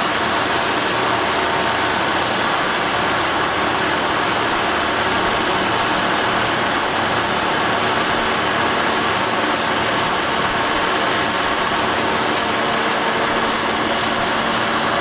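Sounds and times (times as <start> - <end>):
track maintenance machinery running: 0.0 - 15.0.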